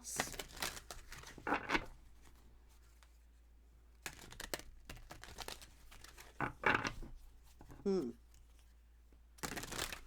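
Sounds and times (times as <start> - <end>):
cards being shuffled: 0.2 - 3.2, 3.9 - 8.7, 9.4 - 10.0.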